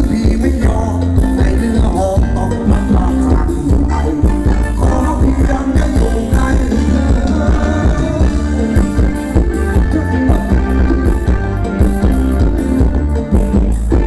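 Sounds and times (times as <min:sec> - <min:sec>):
band music with heavy bass: 0:00.0 - 0:14.0.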